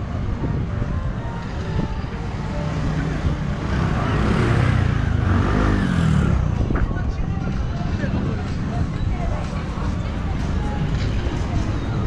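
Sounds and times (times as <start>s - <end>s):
street noise hum: 0.0s - 12.0s.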